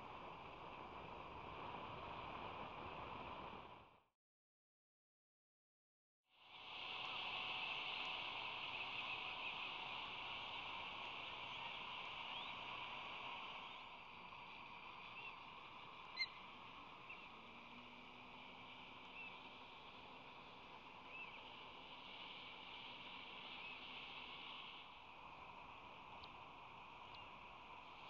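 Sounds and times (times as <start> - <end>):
steady outdoor hiss: 0.0 - 4.1, 6.3 - 28.0.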